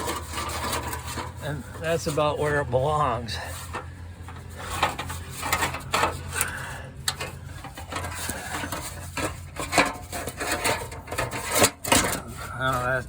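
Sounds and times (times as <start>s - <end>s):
sheet metal clicking and scraping: 0.0s - 2.3s, 3.4s - 12.9s.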